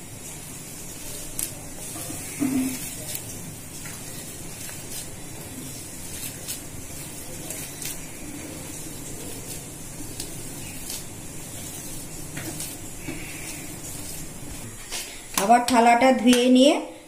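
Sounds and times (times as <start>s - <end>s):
steady hiss: 0.0s - 15.6s
hands kneading soft mash: 0.0s - 16.6s.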